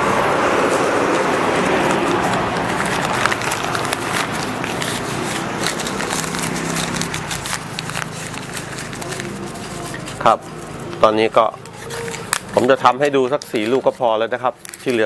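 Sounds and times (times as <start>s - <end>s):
paper crinkling: 1.2s - 15.0s.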